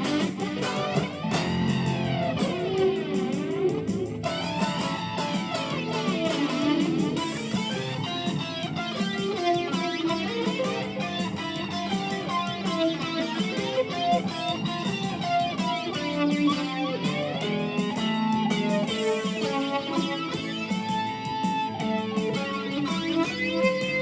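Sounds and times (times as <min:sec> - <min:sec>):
backing track music: 0:00.0 - 0:24.0
electric guitar playing: 0:00.0 - 0:24.0.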